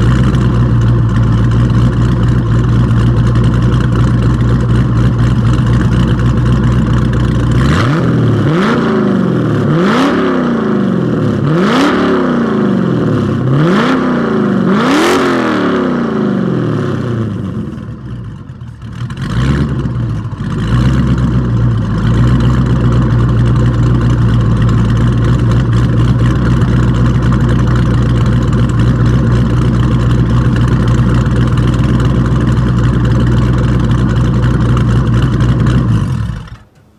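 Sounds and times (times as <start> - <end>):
car engine revving: 0.0 - 36.8
car engine idling: 0.0 - 36.9.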